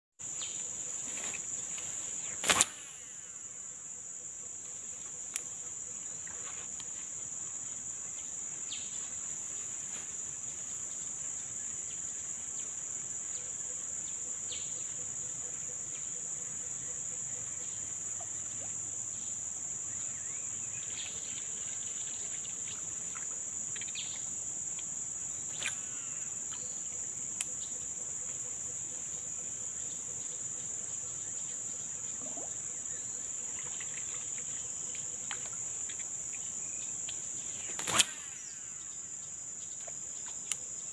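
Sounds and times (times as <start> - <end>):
forest insects droning: 0.2 - 40.9.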